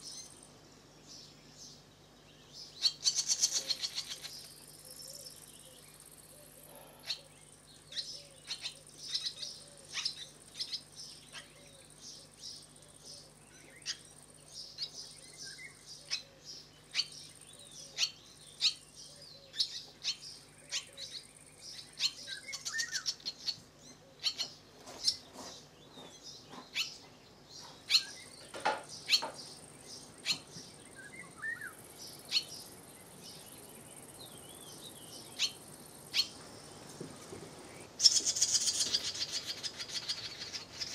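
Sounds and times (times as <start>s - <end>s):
swallows chirping: 1.1s - 40.9s.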